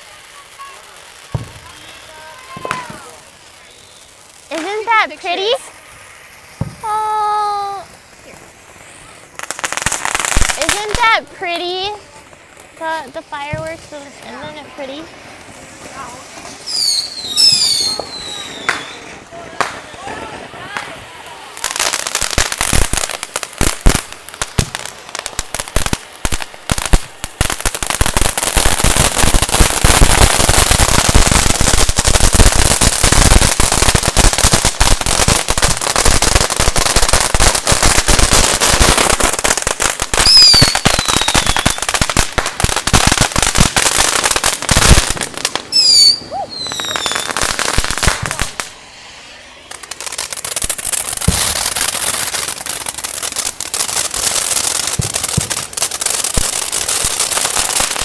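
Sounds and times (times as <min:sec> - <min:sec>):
firecrackers crackling pops: 0:00.0 - 0:58.0
fireworks falling whistles: 0:00.0 - 0:58.0.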